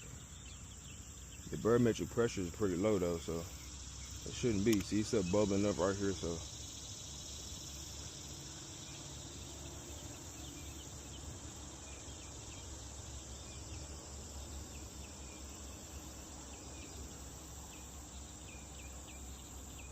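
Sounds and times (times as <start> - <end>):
insects chirring: 0.0 - 19.9
short insect chirps: 0.0 - 19.9.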